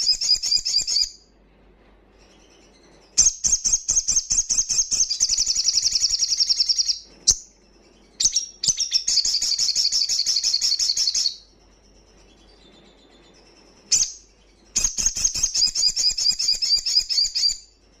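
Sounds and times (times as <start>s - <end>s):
bird singing high trills: 0.0s - 1.3s, 2.3s - 17.8s.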